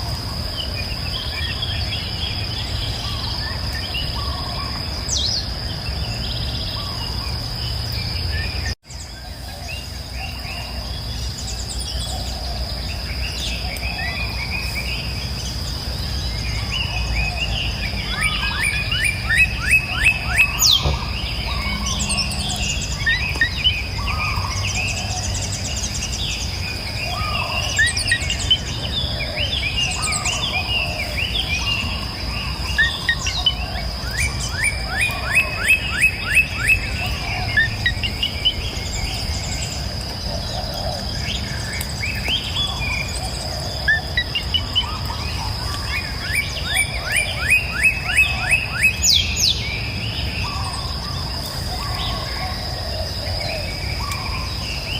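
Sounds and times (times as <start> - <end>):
high insect drone: 0.0 - 54.9
songbirds singing: 0.0 - 54.9.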